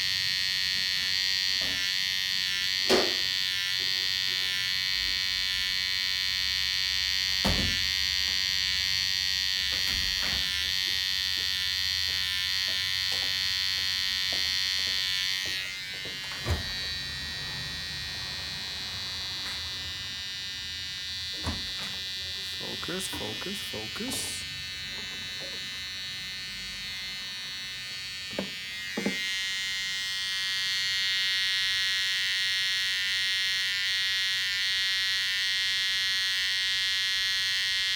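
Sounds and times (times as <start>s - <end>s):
hair trimmer whine: 0.0s - 37.9s.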